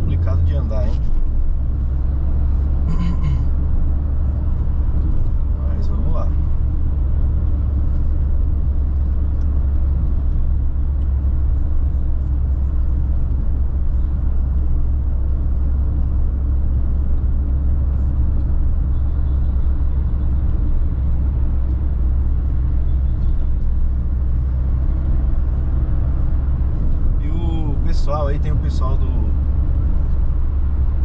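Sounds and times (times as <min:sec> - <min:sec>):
car engine cruising: 0:00.0 - 0:31.0
road noise: 0:00.0 - 0:31.0.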